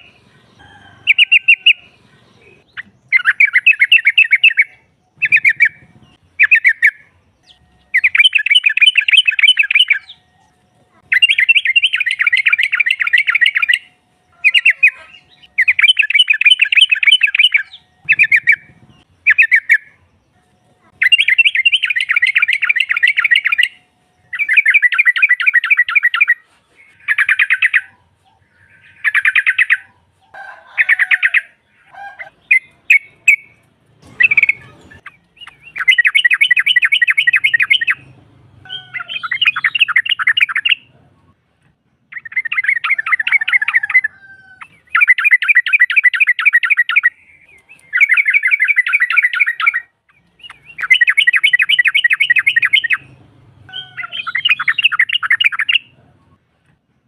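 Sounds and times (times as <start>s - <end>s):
bird chattering trills: 0.0s - 20.0s, 20.7s - 41.3s, 42.1s - 56.4s.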